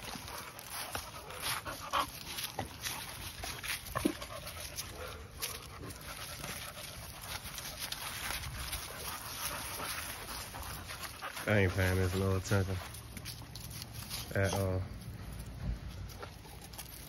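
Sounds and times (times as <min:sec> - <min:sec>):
crackles of dry leaves underfoot: 0:00.0 - 0:17.0
dogs panting: 0:00.0 - 0:17.0.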